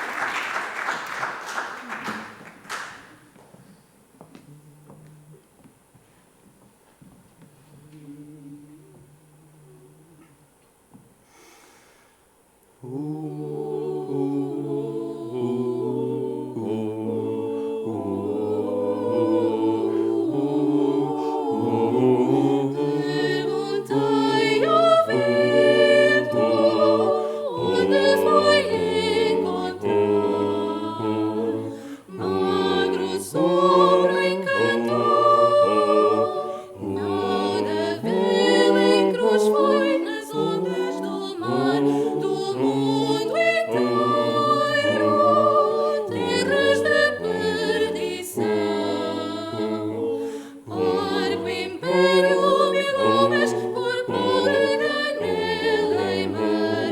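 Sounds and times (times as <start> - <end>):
vocal ensemble singing a cappella: 7.4 - 56.9.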